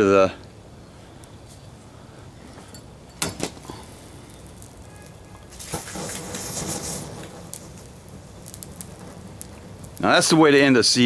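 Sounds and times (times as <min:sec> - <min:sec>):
fire crackling: 0:00.0 - 0:11.0
rush of flame: 0:00.0 - 0:11.0.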